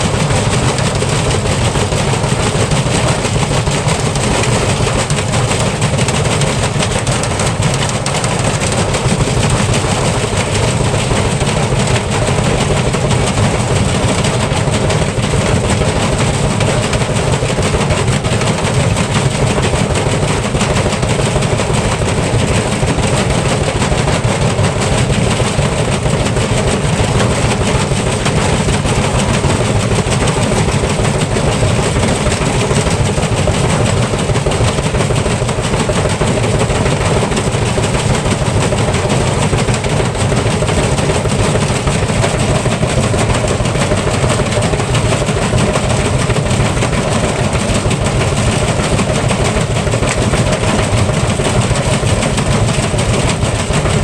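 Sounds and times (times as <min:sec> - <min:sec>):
washing machine spinning rumble: 0:00.0 - 0:54.0.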